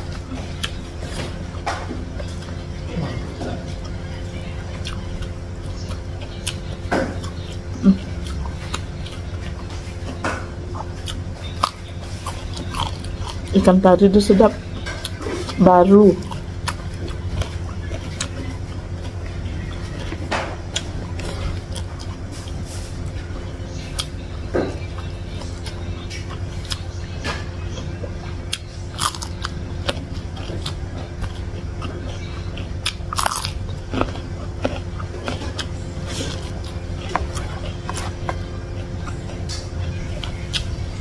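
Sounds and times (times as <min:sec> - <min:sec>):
chewing: 0:00.0 - 0:41.0
crunching raw vegetables: 0:00.0 - 0:41.0
low hum: 0:00.0 - 0:41.0.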